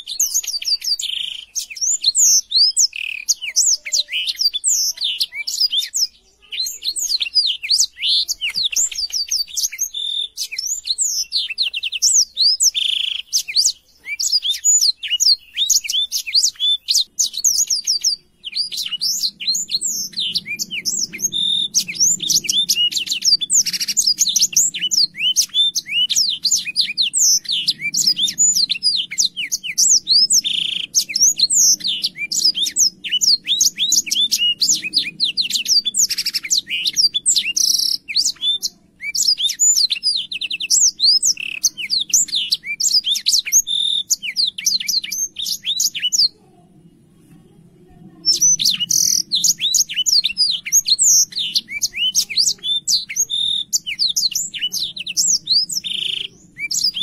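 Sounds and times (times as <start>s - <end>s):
canary singing: 0.0s - 46.4s, 48.1s - 57.0s.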